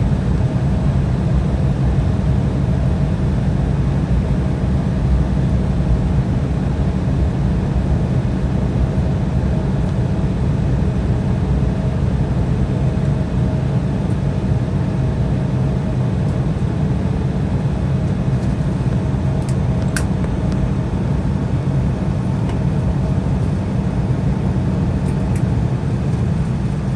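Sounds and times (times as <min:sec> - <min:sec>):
aircraft cabin rumble: 0:00.0 - 0:26.9
faint steady hum: 0:00.0 - 0:26.9.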